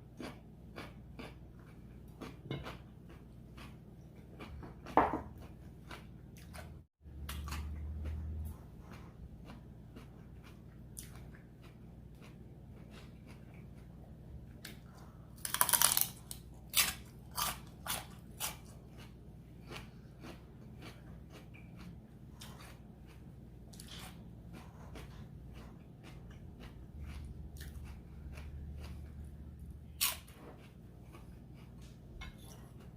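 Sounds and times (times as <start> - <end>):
chewing crunchy vegetables: 0.0 - 32.9.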